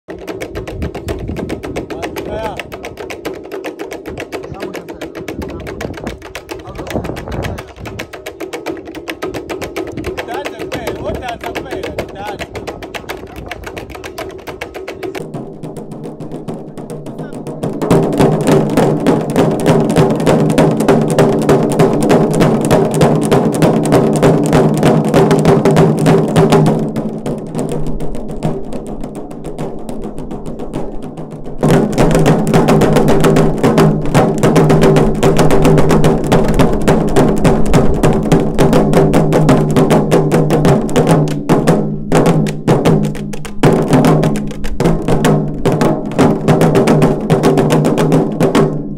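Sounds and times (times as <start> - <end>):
large drums beaten with sticks: 0.1 - 48.9.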